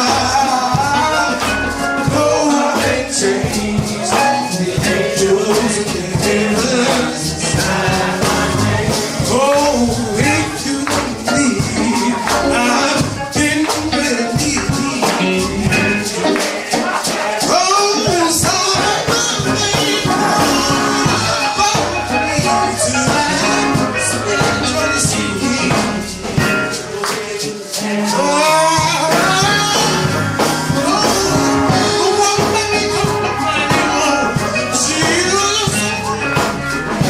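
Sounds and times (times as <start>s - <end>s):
gospel singing over a band: 0.0s - 37.0s
hand percussion beat: 0.0s - 37.0s.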